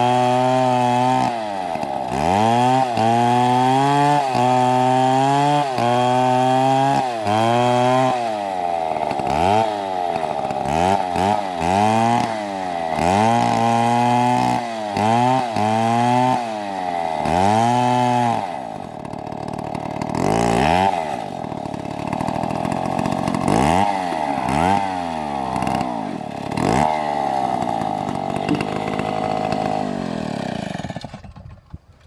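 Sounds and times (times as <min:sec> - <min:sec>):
chainsaw revving and idling: 0:00.0 - 0:31.6.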